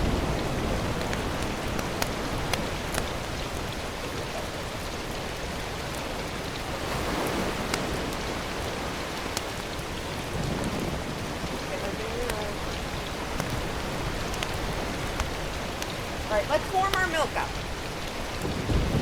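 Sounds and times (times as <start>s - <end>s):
rain-like hiss: 0.0s - 19.0s.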